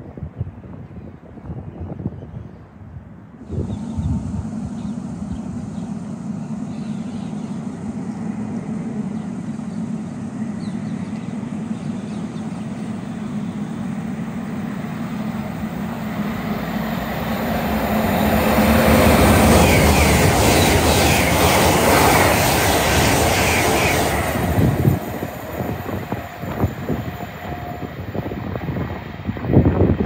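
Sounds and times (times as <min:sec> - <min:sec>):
train wheels rumbling on rail: 0:03.1 - 0:30.0.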